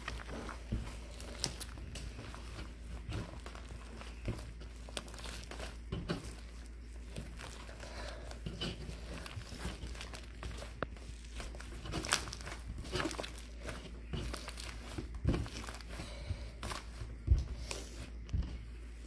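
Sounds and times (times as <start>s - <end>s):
crinkling by hand: 0.0s - 19.0s.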